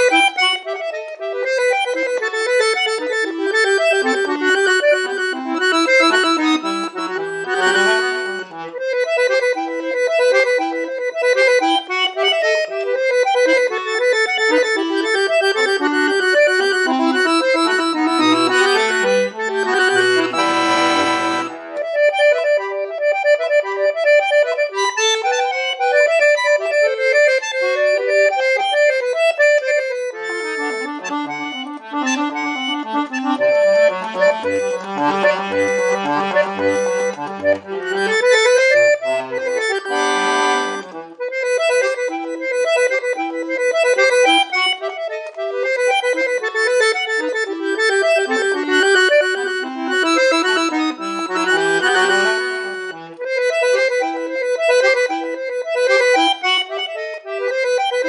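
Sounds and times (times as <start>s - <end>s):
solo accordion playing: 0.0s - 58.0s.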